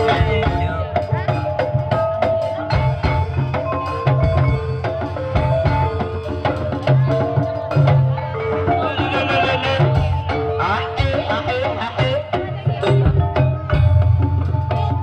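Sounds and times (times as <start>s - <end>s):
hand drums: 0.0s - 15.0s
struck melodic percussion: 0.0s - 15.0s.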